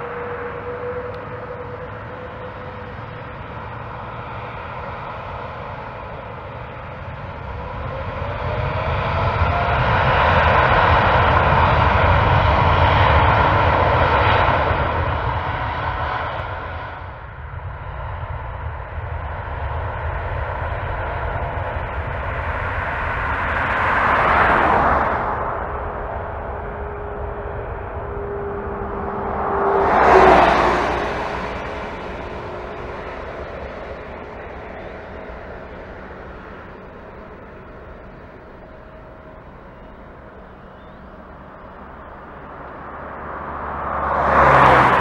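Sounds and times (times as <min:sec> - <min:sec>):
high engine whine: 0:00.0 - 0:45.0
jet engines rumbling: 0:00.0 - 0:45.0.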